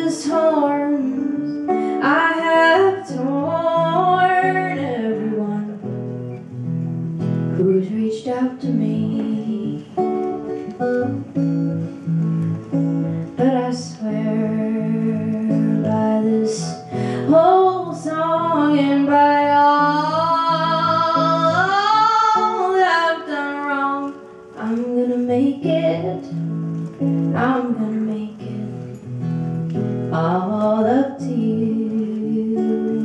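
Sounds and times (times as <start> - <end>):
woman singing: 0.0 - 6.4, 7.5 - 10.9, 13.2 - 33.0
strummed guitar: 0.0 - 33.0.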